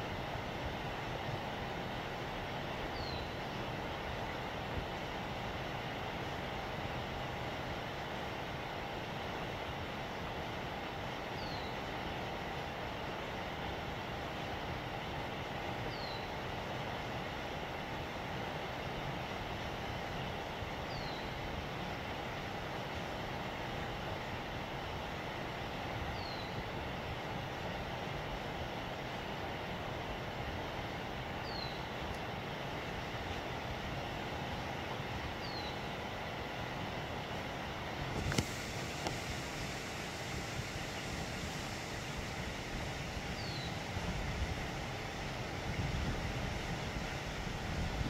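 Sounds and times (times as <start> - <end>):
outdoor rumble and hiss: 0.0 - 48.0.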